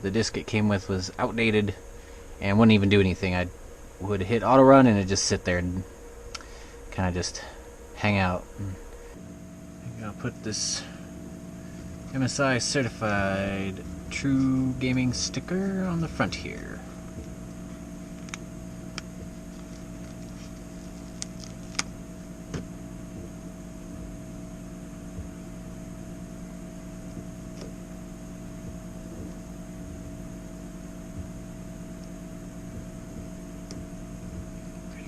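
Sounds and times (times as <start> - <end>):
electrical machine hum: 0.0 - 35.0.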